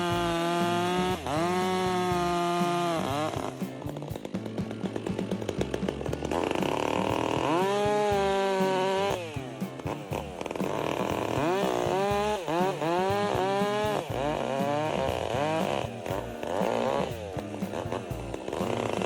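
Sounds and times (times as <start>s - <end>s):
chainsaw engine revving: 0.0s - 19.0s.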